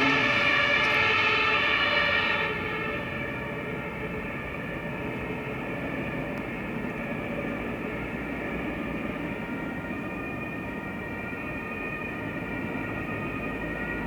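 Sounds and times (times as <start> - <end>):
city street traffic: 0.0 - 14.0
emergency vehicle sirens: 0.0 - 14.0.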